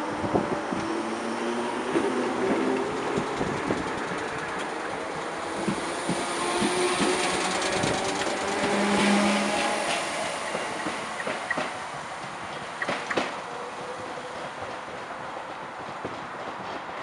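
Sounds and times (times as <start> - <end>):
electric train pulling away: 0.0 - 14.6
wheels clicking over rail joints: 1.9 - 17.0.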